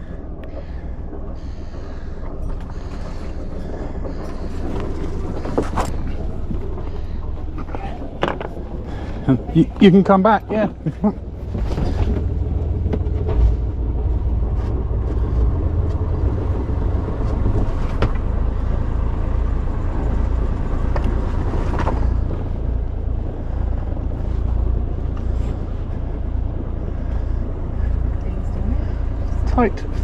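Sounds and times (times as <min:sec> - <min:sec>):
boat engine rumbling: 0:00.0 - 0:30.0.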